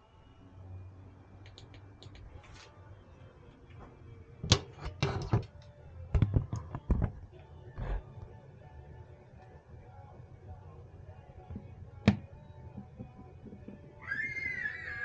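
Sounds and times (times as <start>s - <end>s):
faint low hum: 0.0s - 14.2s.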